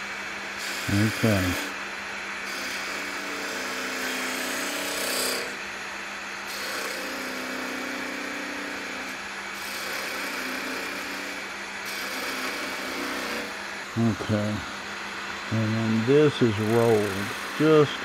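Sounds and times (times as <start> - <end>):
lathe motor hum: 0.0 - 18.0
lathe tool scraping wood: 0.6 - 1.8, 2.4 - 5.6, 6.4 - 18.0.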